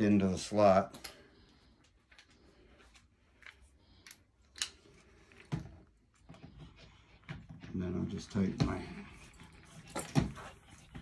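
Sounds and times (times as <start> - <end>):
faint clicks and scrapes: 1.0 - 11.0.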